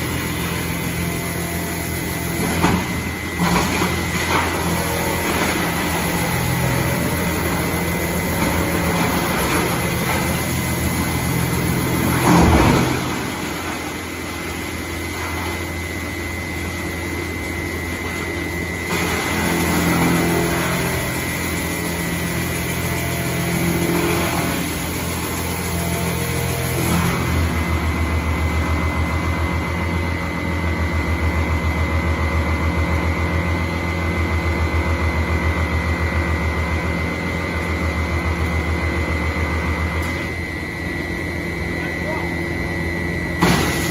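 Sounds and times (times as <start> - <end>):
wood chipper running: 0.0 - 43.9.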